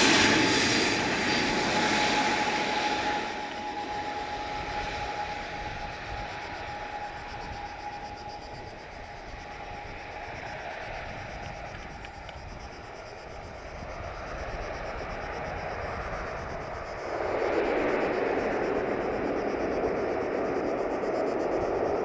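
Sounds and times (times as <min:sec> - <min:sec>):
thin steady whine: 0:00.0 - 0:22.0
turboprop engines droning: 0:00.0 - 0:22.0.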